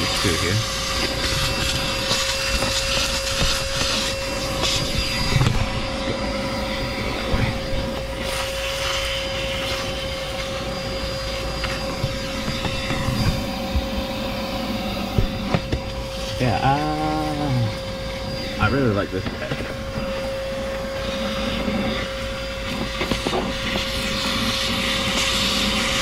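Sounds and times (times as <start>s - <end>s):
handheld vacuum cleaner running: 0.0s - 26.0s.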